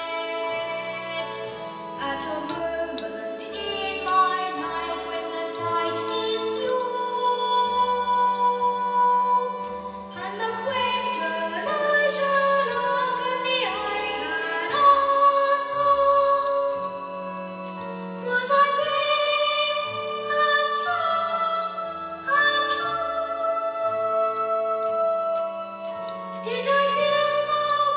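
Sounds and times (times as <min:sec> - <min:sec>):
music with singing voice: 0:00.0 - 0:27.9.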